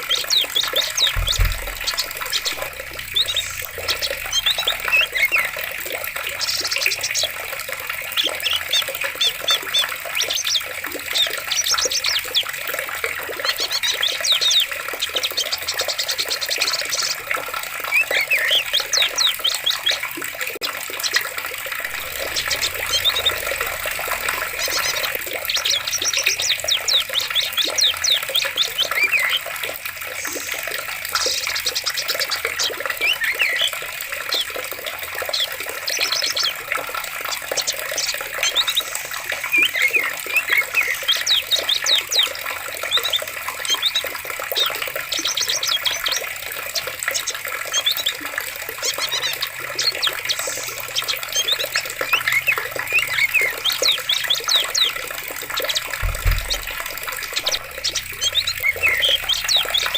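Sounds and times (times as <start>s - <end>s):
running water rushing: 0.0s - 59.9s
small birds chirping: 0.0s - 59.9s.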